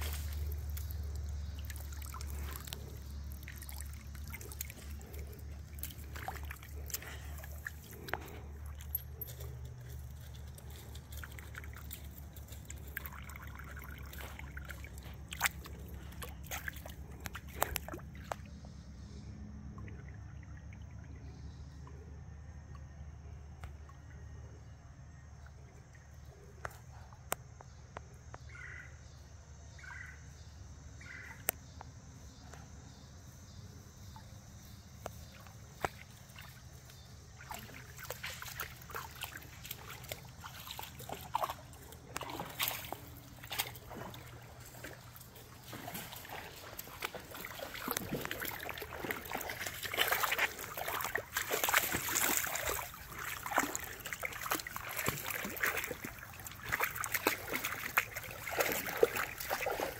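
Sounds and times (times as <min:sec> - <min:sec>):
creek water splashing: 0:00.0 - 0:27.6, 0:33.8 - 0:59.9.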